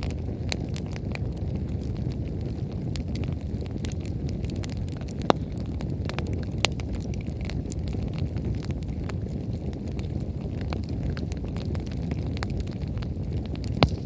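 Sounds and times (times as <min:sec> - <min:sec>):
bonfire flames rumbling: 0:00.0 - 0:14.0
fire crackling: 0:00.0 - 0:14.0
firewood popping: 0:00.0 - 0:14.0.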